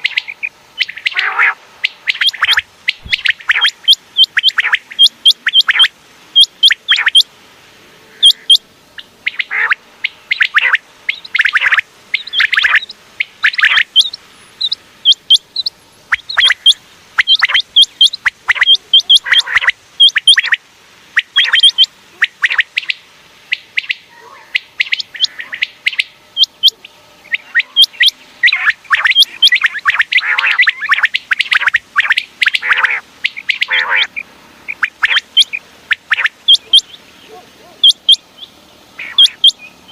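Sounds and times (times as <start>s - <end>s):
quail calling: 0.0s - 7.3s, 8.0s - 39.9s.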